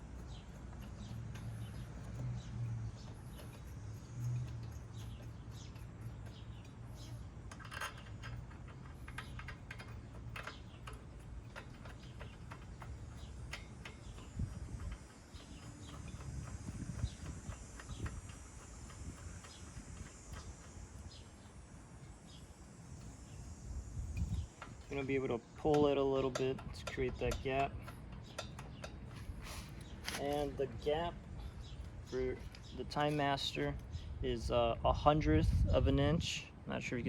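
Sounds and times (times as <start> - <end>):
light metallic clicks of tools: 0.0 - 21.5, 24.1 - 34.0
low steady hum: 0.0 - 37.0.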